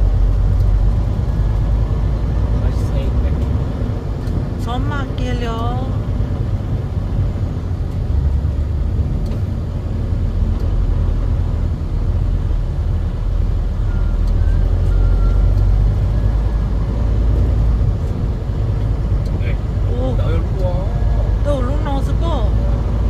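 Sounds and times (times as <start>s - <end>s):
road noise: 0.0s - 23.0s
truck engine: 0.0s - 23.0s.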